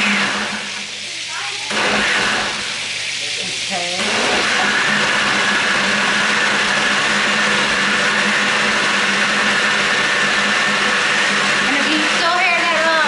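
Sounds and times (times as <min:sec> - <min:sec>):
electric blender motor running: 0:00.0 - 0:13.0.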